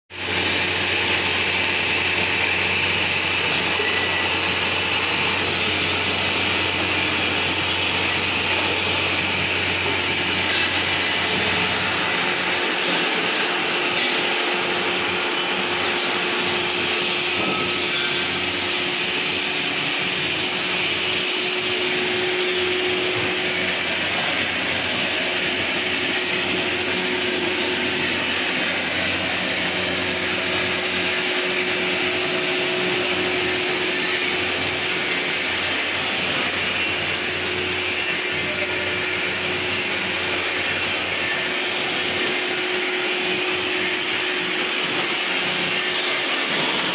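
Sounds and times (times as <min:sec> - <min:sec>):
extruder machine running: 0:00.2 - 0:46.9.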